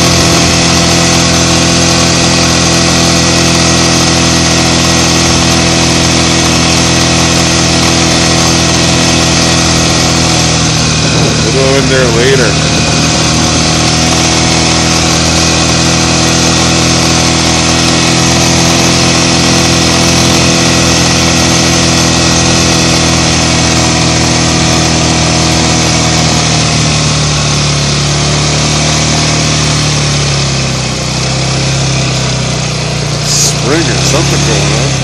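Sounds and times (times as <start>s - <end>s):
snowmobile engine running: 0.0s - 35.0s.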